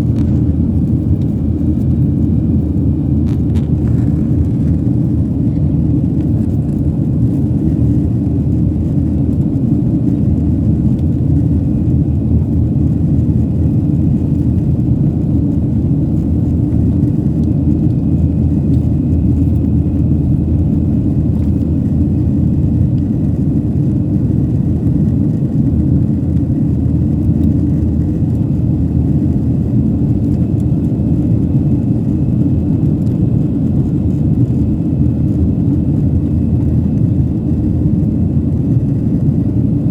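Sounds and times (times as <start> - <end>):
airliner engine rumble: 0.0 - 39.9
faint steady whine: 0.0 - 39.9.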